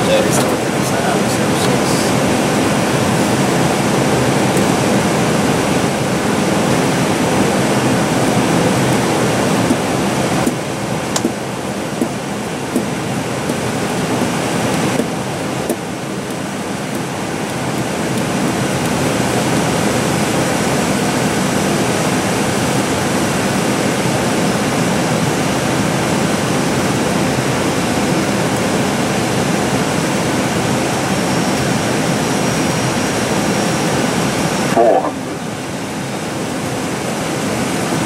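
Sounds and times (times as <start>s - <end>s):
aircraft cockpit rushing noise: 0.0s - 24.6s, 25.2s - 35.6s.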